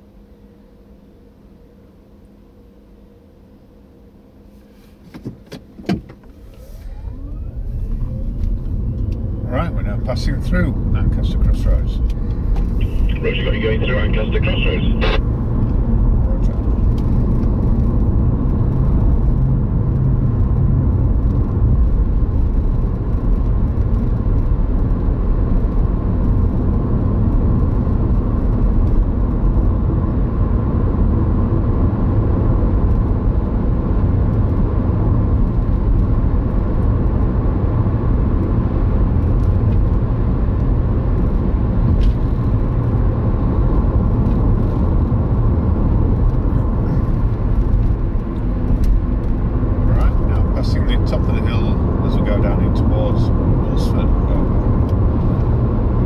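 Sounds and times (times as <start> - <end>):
car driving tyre and engine noise: 4.8 - 56.0.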